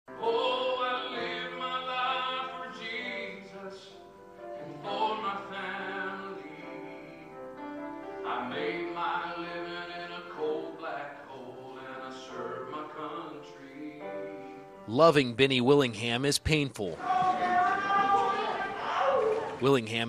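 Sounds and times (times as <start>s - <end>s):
hymn singing: 0.1s - 20.0s.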